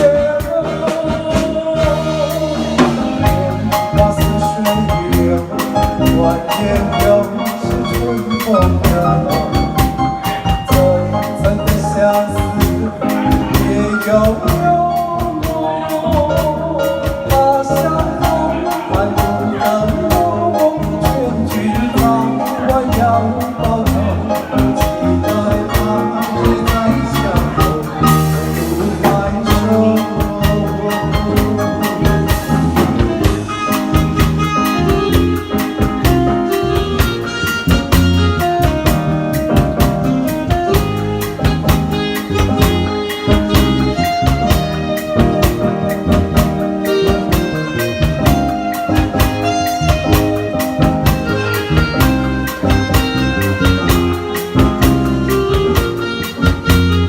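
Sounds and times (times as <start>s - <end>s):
bass: 0.0s - 57.0s
drum beat: 0.0s - 57.0s
lead melody of held notes: 0.0s - 57.0s.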